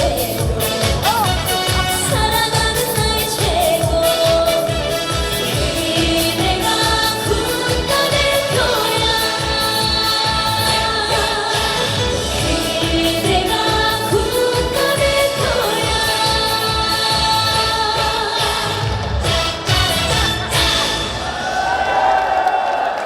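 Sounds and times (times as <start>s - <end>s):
woman singing with vibrato: 0.0s - 19.7s
musical accompaniment with steady beat: 0.0s - 21.3s.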